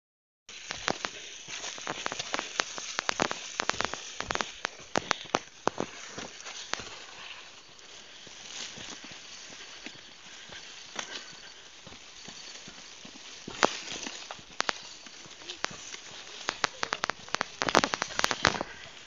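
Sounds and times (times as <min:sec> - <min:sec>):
footsteps on dirt trail: 0:00.5 - 0:19.0
grass brushing and crackling: 0:00.5 - 0:19.0.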